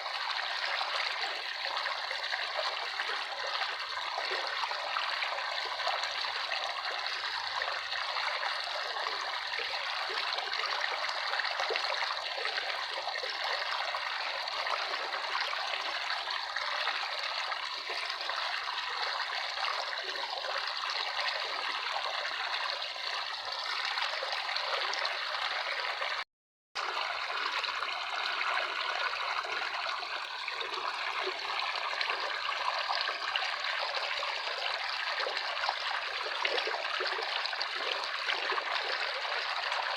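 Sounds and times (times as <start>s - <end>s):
running water flowing: 0.0s - 26.2s, 26.8s - 39.9s.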